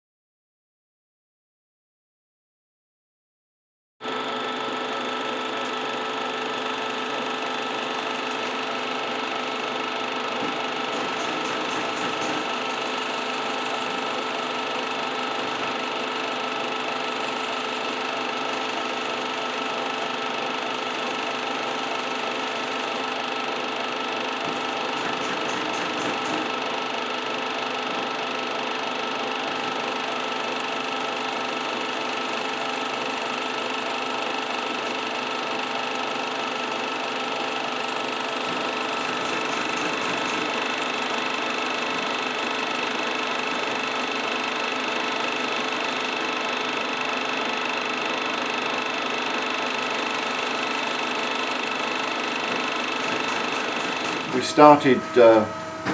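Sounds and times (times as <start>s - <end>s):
lathe motor whining: 4.0s - 55.9s.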